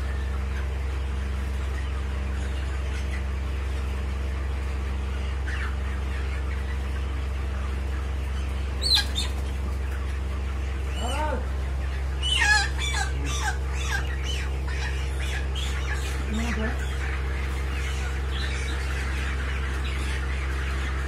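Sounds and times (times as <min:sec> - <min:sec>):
chickens clucking and squawking: 0:00.0 - 0:21.0
steady low hum: 0:00.0 - 0:21.0.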